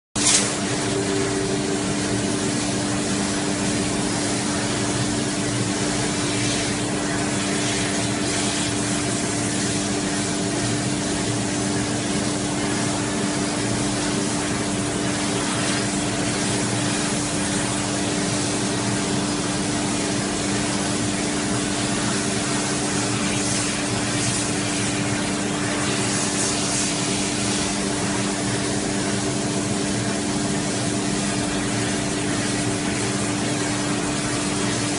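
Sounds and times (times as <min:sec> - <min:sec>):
low machine hum: 0:00.2 - 0:34.9.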